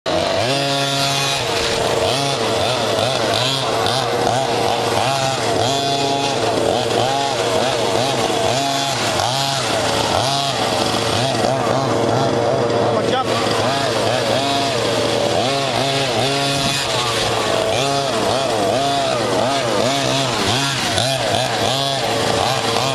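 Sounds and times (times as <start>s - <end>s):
small two-stroke engine revving: 0.0s - 22.9s.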